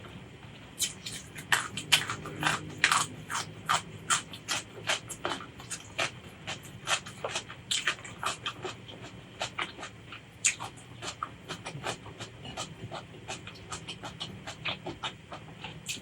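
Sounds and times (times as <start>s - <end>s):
chewing and crunching: 0.8s - 16.0s.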